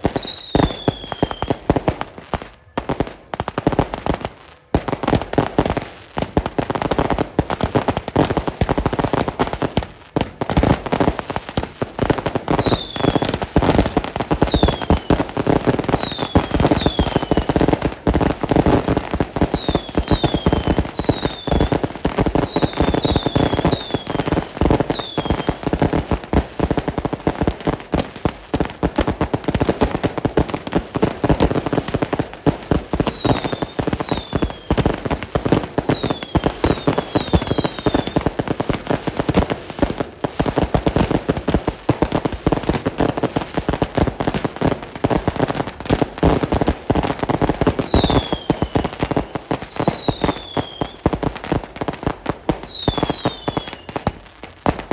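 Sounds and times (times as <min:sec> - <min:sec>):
firecrackers crackling and popping: 0:00.0 - 0:54.9
whistling fireworks: 0:00.0 - 0:54.9.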